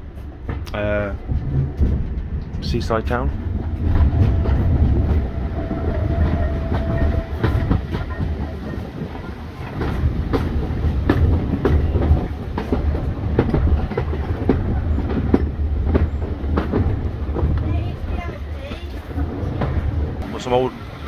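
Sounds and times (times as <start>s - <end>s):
railway coach rumbling on track: 0.0s - 21.0s
wheels clicking over rail joints: 0.0s - 21.0s.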